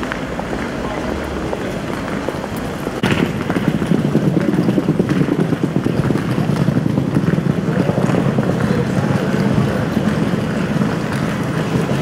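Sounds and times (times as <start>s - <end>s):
urban street ambience: 0.0s - 12.0s.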